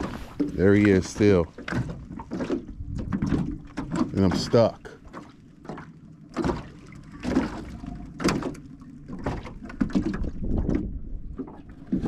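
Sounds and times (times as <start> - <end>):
gear knocking against boat: 0.0 - 12.0.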